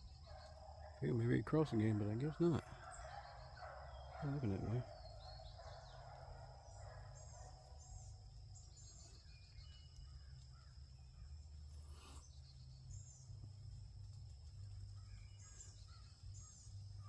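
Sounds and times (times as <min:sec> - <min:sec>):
faint high bird chirps: 0:00.0 - 0:13.4, 0:14.9 - 0:17.0.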